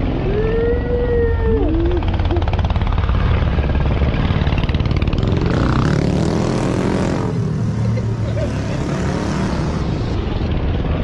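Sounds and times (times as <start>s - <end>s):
motorcycle engines running: 0.0s - 11.0s
motorcycle passing close: 0.0s - 11.0s.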